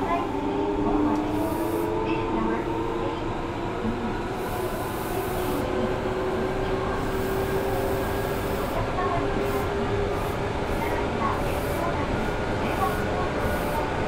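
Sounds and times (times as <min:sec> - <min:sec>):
rumble of wheels on rail: 0:00.0 - 0:14.0.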